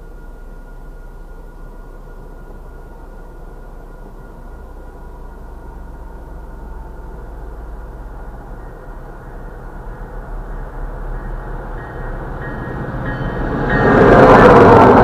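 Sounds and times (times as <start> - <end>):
crossing warning signal tones: 0.0 - 15.0
diesel train rumbling: 0.0 - 15.0.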